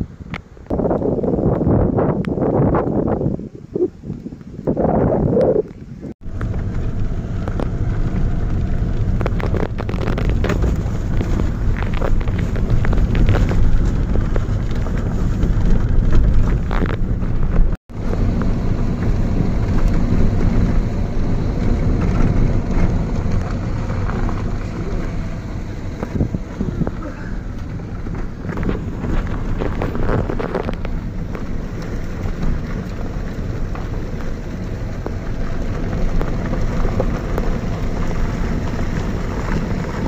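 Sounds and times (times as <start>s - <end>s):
car engine and tyre rumble: 0.0s - 40.0s
knocks and rattles: 6.2s - 40.0s.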